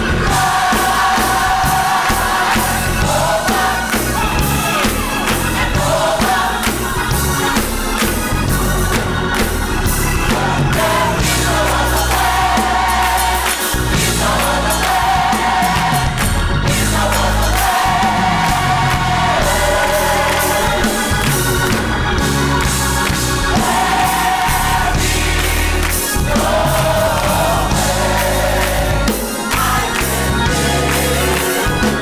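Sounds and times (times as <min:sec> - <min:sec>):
gospel choir singing: 0:00.0 - 0:32.0
steady beat: 0:00.0 - 0:32.0.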